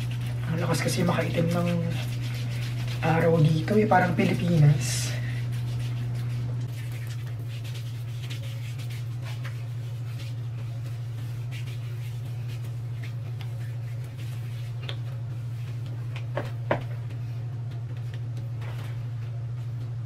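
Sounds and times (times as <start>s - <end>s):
hands rubbing lotion on skin: 0.0s - 18.6s
steady low hum: 0.0s - 20.0s.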